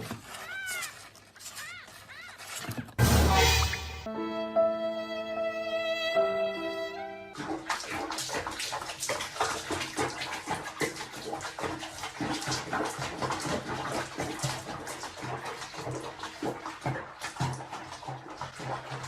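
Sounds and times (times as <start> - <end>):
water splashing and sloshing: 0.0 - 4.1, 7.3 - 19.0.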